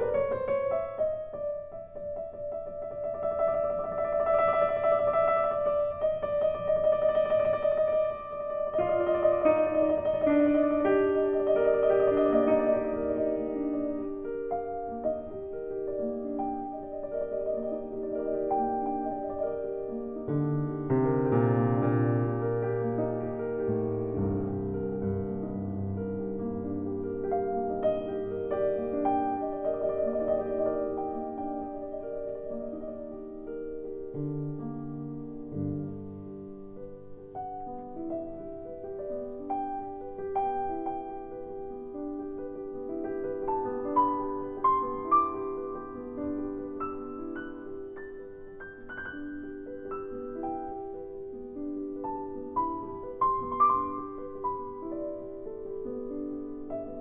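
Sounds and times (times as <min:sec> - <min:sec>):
slow gentle piano music: 0:00.0 - 0:57.0.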